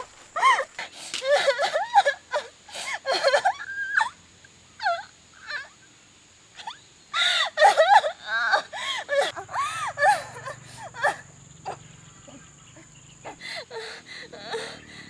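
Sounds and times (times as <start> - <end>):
woman crying and sobbing: 0.0 - 4.2, 4.8 - 5.7, 6.6 - 15.0.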